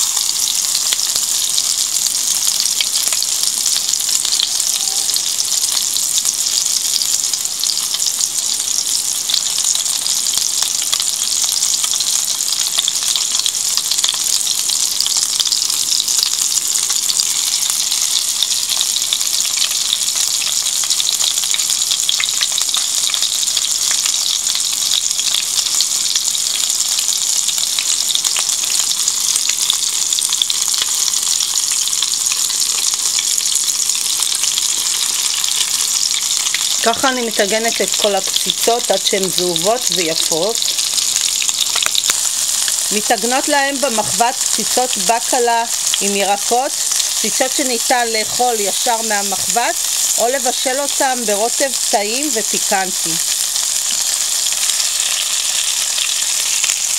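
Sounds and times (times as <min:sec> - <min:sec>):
patties sizzling in oil: 0:00.0 - 0:56.9.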